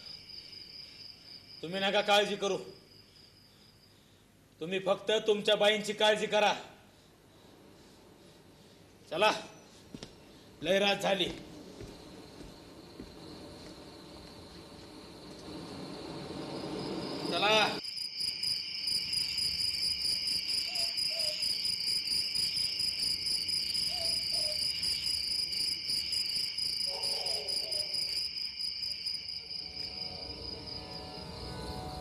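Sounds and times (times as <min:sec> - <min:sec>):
crickets chirping: 0:00.0 - 0:06.0, 0:06.8 - 0:32.0.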